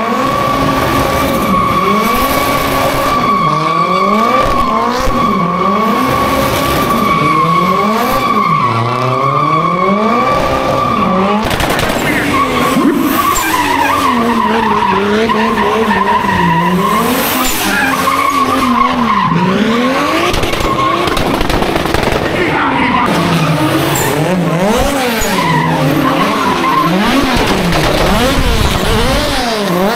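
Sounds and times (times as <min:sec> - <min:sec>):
car engine revving: 0:00.0 - 0:29.9
tyres squealing: 0:00.4 - 0:21.2, 0:22.4 - 0:29.9.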